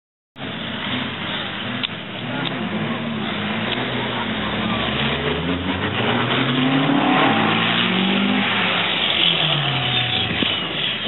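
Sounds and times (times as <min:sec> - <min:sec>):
racing truck engines revving: 0:00.4 - 0:11.0.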